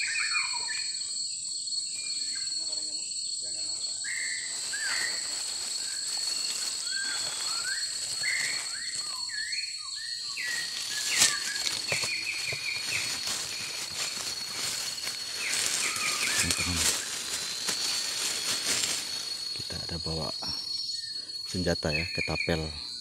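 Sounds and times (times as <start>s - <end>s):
insects droning: 0.0s - 23.0s
birds calling: 4.0s - 22.8s.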